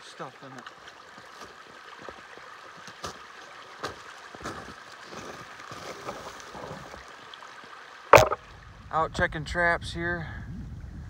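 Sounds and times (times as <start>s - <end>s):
stream trickling: 0.0s - 8.9s.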